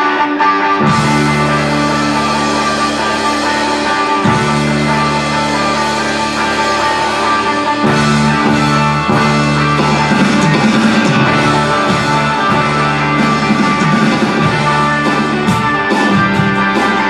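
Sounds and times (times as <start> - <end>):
electric guitar chords: 0.0 - 17.0
rock band playing: 0.0 - 17.0.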